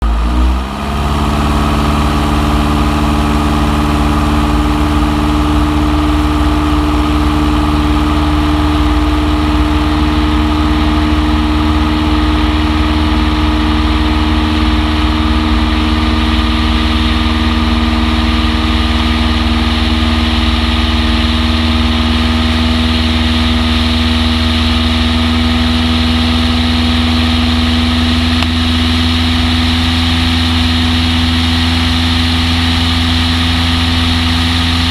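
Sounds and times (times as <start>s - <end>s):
light aircraft engine droning: 0.0s - 34.9s.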